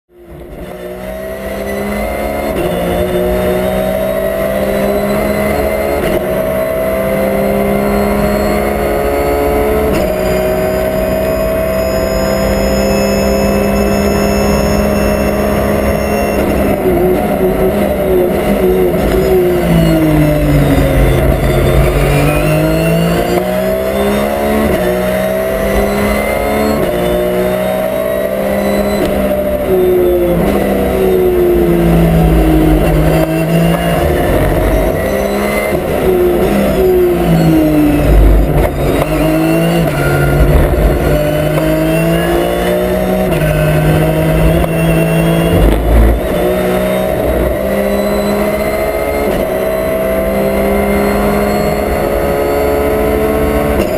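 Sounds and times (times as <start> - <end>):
race car engine revving: 0.1 - 53.9
quick gear upshifts: 0.3 - 53.9.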